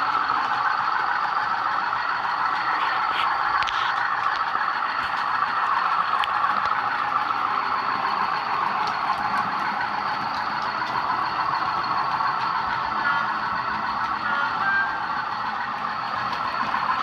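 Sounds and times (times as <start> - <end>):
diesel engine sound from small speaker: 0.0 - 17.0.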